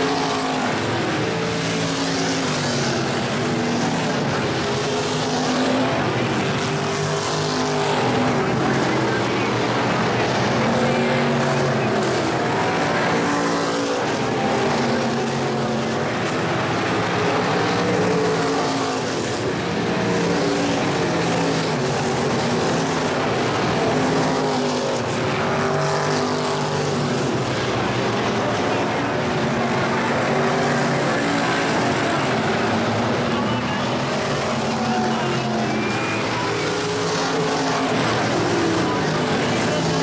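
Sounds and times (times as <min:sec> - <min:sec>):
race car engines revving: 0:00.0 - 0:40.0.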